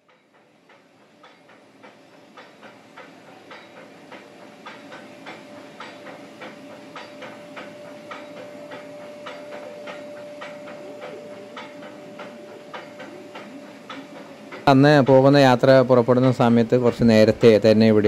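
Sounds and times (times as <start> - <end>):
train wheels clicking and knocking: 0.0 - 18.0.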